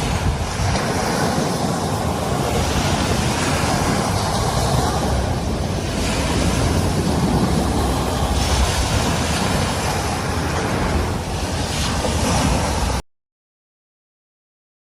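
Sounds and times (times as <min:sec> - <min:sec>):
waves washing onto shingle: 0:00.0 - 0:13.0
wind on microphone: 0:00.0 - 0:13.0.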